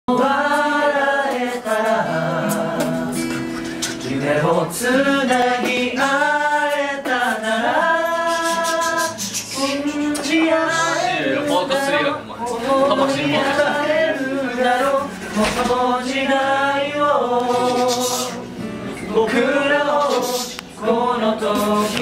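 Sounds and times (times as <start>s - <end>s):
men singing a cappella: 0.1s - 22.0s.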